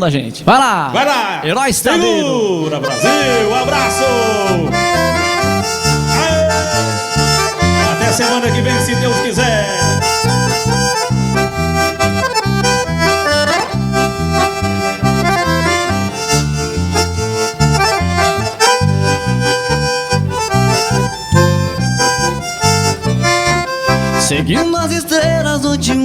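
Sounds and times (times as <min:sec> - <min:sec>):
live band playing: 0:01.9 - 0:24.3.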